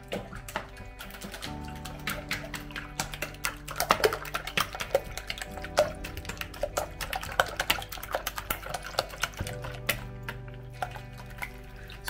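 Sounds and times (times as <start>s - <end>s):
whisk clicking against plastic bowl: 0.0s - 12.0s.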